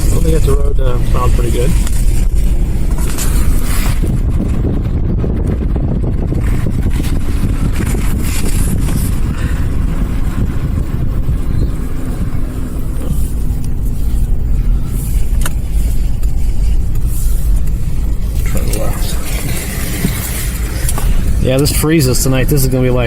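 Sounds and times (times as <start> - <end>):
car engine running: 0.0 - 23.0
tyres rumbling on packed snow: 0.0 - 23.0.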